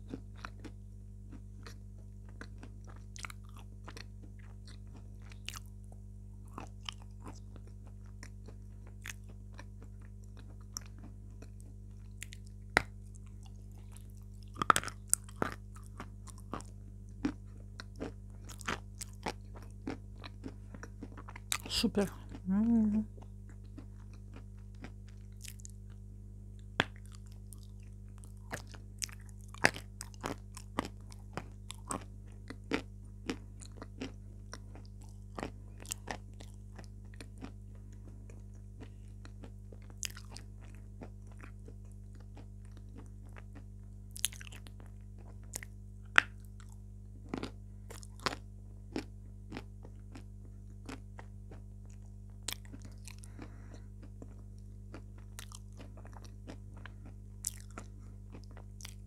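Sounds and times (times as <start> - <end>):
chalk crunching while chewed: 0.0 - 22.4, 23.2 - 26.0, 26.6 - 59.0
low electrical hum: 0.0 - 59.0.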